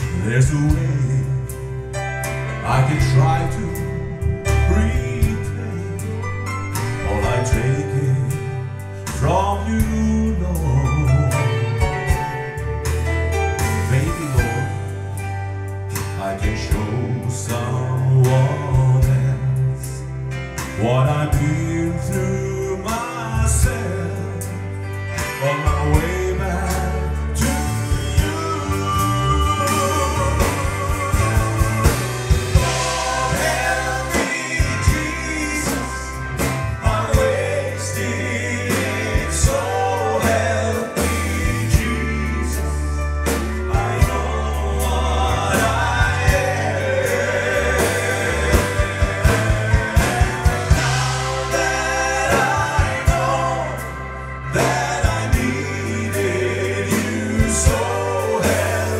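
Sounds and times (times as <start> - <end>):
guitar and band accompaniment: 0.0 - 58.9
person singing country-gospel song: 0.0 - 58.9
steady bass line: 0.0 - 58.9.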